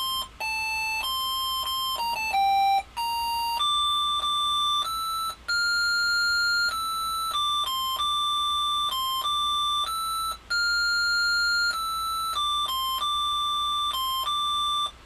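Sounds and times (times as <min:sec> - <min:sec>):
electronic beeping melody: 0:00.0 - 0:15.0.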